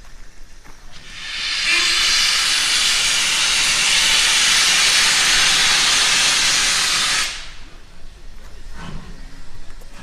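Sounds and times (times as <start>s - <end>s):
steam locomotive venting steam: 0.8s - 10.0s.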